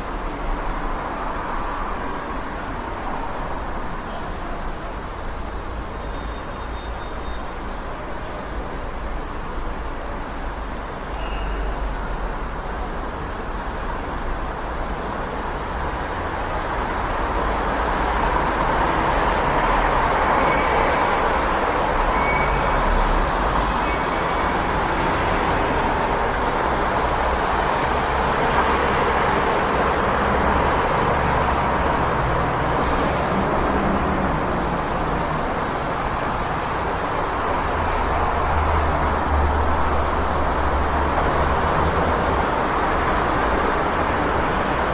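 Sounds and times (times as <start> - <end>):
passing cars and heavy vehicles: 0.0 - 44.9.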